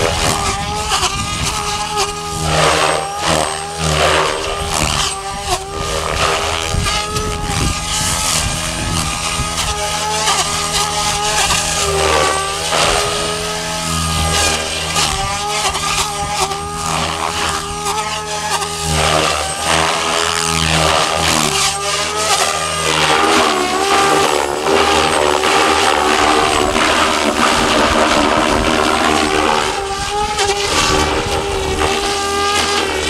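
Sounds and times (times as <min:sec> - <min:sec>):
model helicopter rotor whine: 0:00.0 - 0:33.0
whooshing blade noise: 0:00.0 - 0:33.0.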